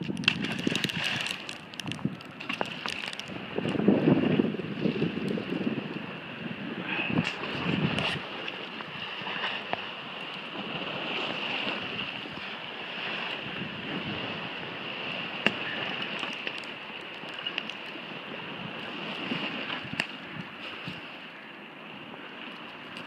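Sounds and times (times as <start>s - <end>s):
wind rushing across microphone: 0.0s - 21.4s.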